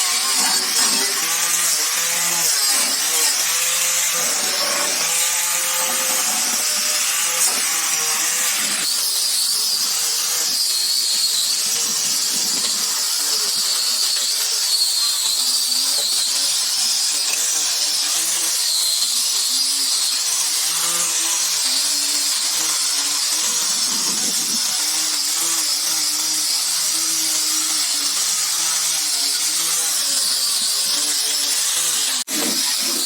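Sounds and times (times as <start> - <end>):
power tool whining: 0.0 - 33.0.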